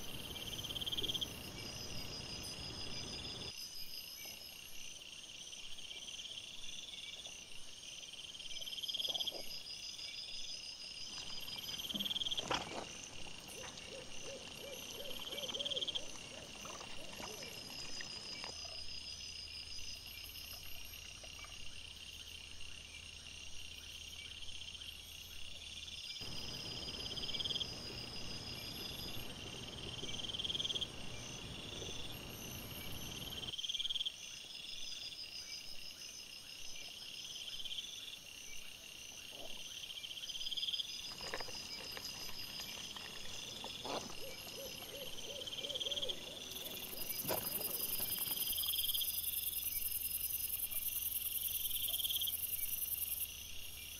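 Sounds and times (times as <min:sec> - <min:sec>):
insect trills: 0:00.0 - 0:07.4, 0:08.1 - 0:53.9
crickets chirping: 0:00.0 - 0:53.9.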